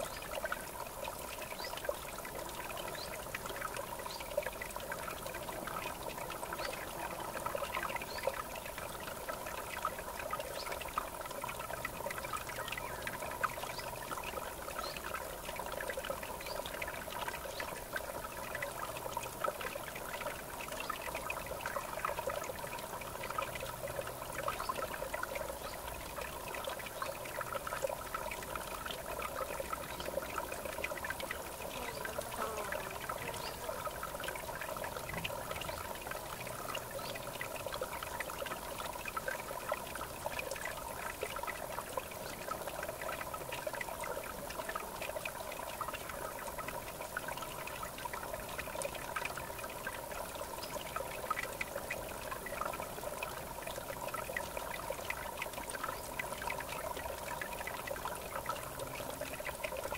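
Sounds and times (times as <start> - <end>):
river water babbling: 0.0 - 59.9
water splashes and drips: 0.0 - 59.9.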